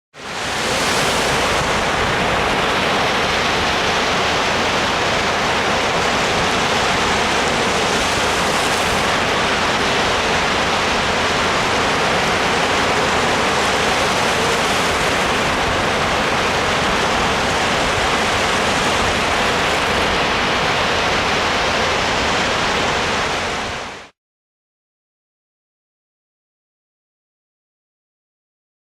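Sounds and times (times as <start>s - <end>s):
ocean surf rushing: 0.2s - 24.2s.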